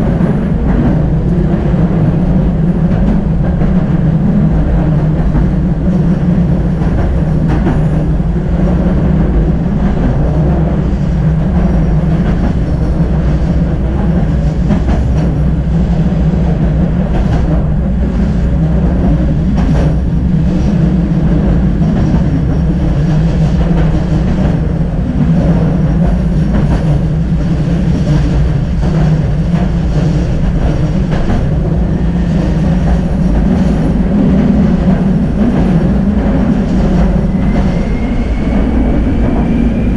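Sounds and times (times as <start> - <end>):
tram wheels rumbling on rails: 0.0 - 39.9.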